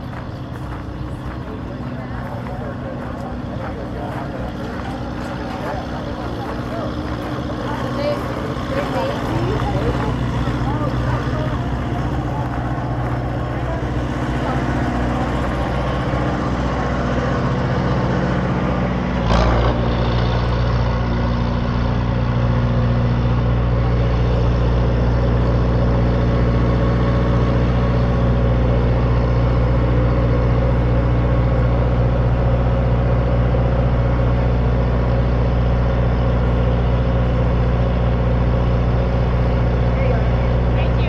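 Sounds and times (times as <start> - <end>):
truck motor droning: 0.0 - 41.0.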